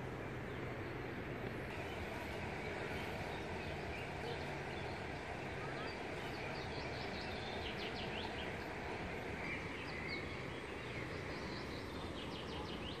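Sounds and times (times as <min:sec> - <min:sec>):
background hiss and rumble: 0:00.0 - 0:13.0
small birds chirping: 0:00.0 - 0:13.0.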